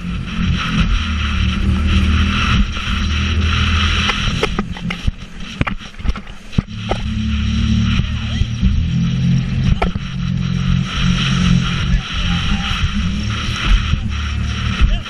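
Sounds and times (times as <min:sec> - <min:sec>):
jet ski engine running: 0:00.0 - 0:15.0
rush of water and wind: 0:00.0 - 0:15.0.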